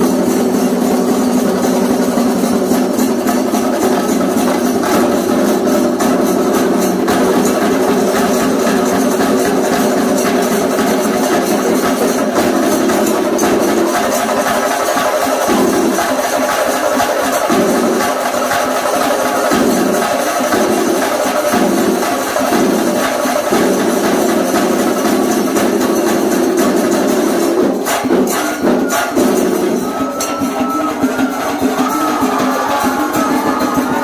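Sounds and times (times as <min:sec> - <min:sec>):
drum ensemble played with sticks: 0:00.0 - 0:34.0.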